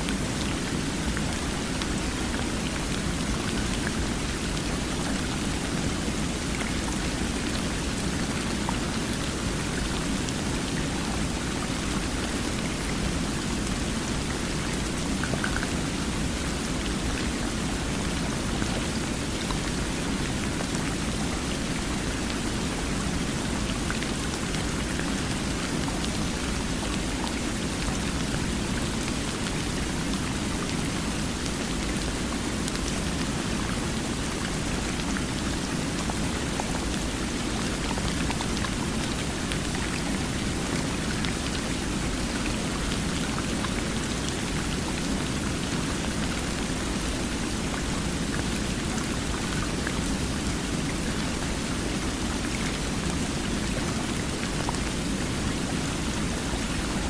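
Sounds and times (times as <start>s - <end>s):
rushing flowing water: 0.0s - 57.0s.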